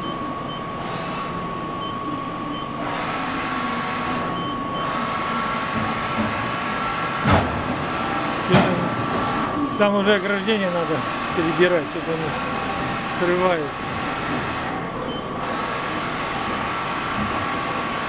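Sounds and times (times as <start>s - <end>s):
machine whine: 0.0s - 18.0s.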